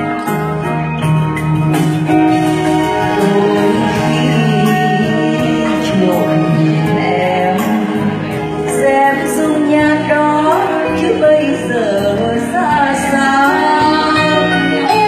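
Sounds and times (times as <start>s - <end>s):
live band with guitar: 0.0s - 15.0s
woman singing into microphone: 2.7s - 15.0s.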